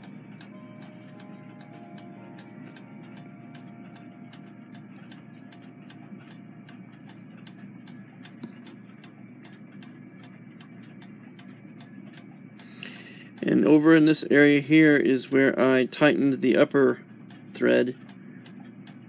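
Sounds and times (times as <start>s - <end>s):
low steady hum: 0.0s - 19.0s
regular ticking: 0.0s - 19.0s.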